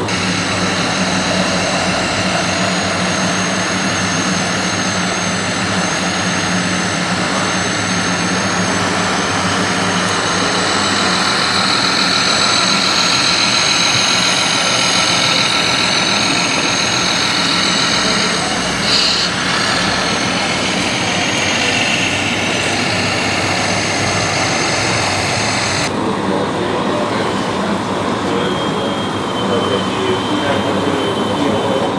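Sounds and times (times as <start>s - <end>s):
thin high whine: 0.0s - 25.9s
model truck engine drone: 0.0s - 31.9s.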